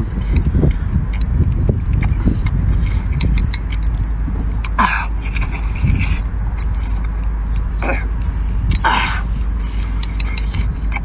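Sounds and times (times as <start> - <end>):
steady low rumble: 0.0 - 11.0
wet chewing: 0.0 - 11.0.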